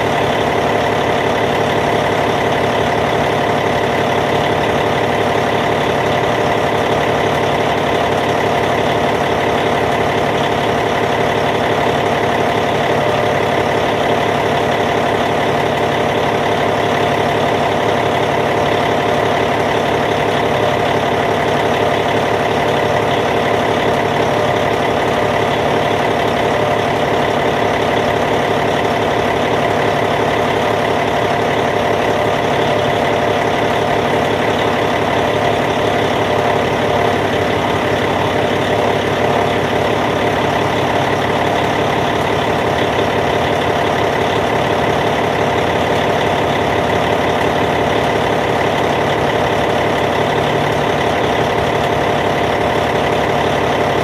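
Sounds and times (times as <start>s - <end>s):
diesel bulldozer engine idling: 0.0s - 54.0s.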